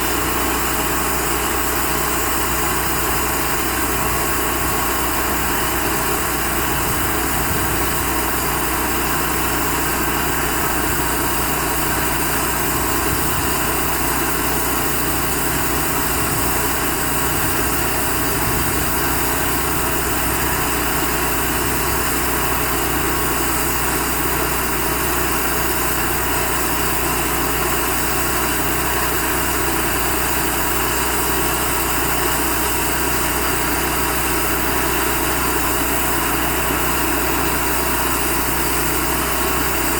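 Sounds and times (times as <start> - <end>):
band sawmill sawing log: 0.0 - 39.9.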